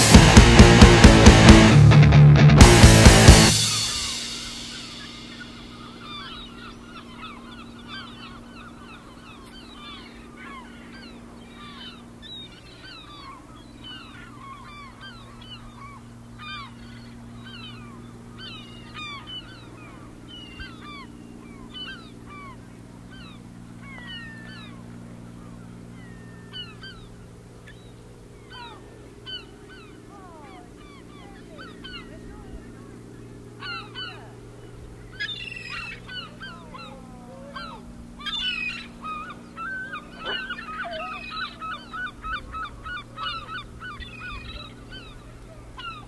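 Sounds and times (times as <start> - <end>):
steady low hum: 0.0 - 46.0
flock of birds calling: 3.0 - 46.0.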